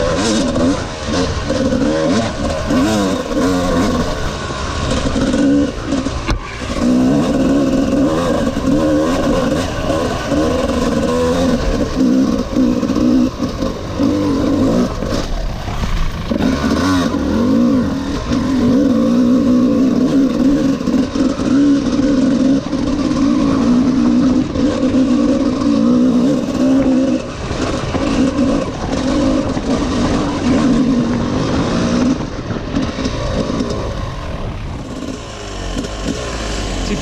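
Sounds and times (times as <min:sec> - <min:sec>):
motorcycle engine running at low revs: 0:00.0 - 0:37.0.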